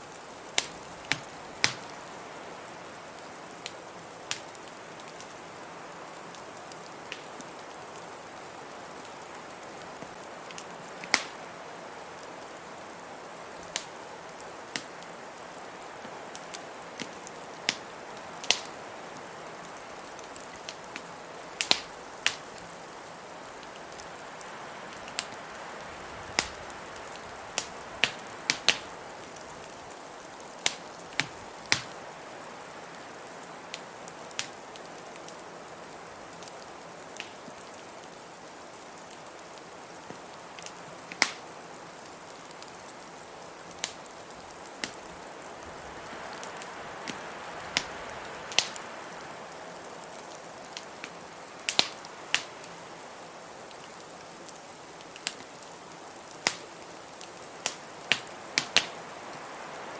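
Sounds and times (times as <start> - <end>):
blizzard wind hiss: 0.0 - 55.4, 56.2 - 59.9
wood fire crackling and popping: 0.1 - 11.6, 12.2 - 59.7.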